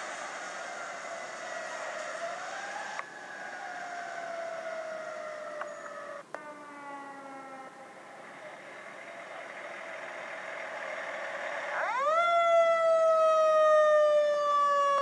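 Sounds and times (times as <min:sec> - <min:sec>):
fire truck siren wailing: 0:00.0 - 0:08.6, 0:09.2 - 0:15.0.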